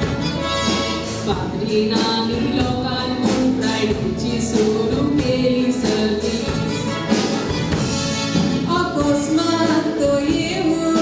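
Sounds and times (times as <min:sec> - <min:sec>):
drum kit steady beat: 0:00.0 - 0:11.0
keyboard accompaniment: 0:00.0 - 0:11.0.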